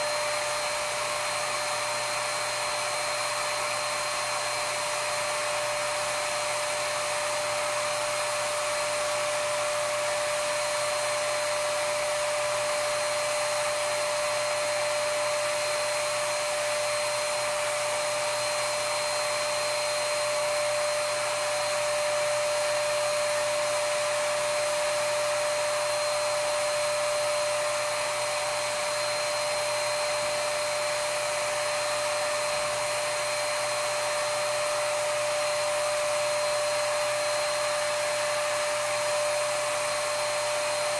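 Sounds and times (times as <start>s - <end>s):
spray turbine rushing air and whine: 0.0s - 40.9s.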